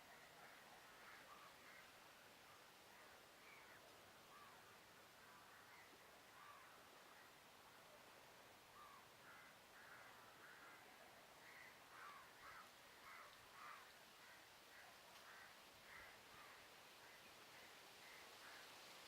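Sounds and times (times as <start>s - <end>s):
faint bird calls: 0.0s - 19.0s
low background hiss: 0.0s - 19.0s.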